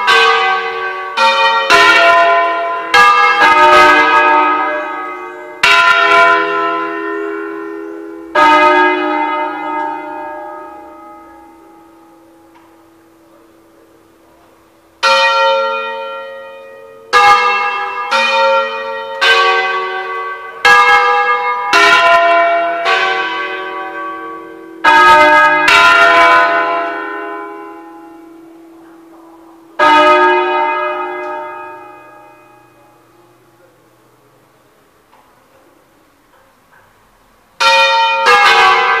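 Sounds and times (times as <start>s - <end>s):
church bells ringing: 0.0s - 36.1s, 37.6s - 39.0s.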